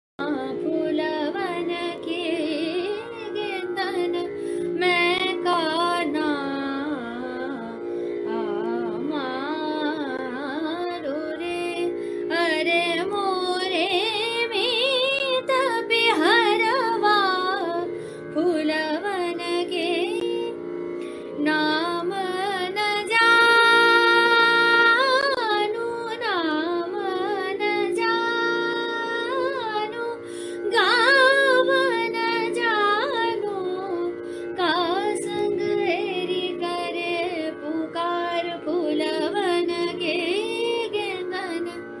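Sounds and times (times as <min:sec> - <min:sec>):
woman singing: 0:00.2 - 0:20.6, 0:21.3 - 0:42.0
steady drone: 0:00.2 - 0:42.0.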